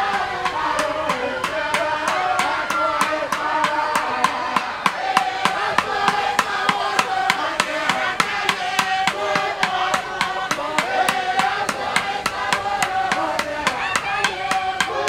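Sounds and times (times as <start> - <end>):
many voices singing and shouting: 0.0 - 15.0
sharp percussion beat: 0.0 - 15.0.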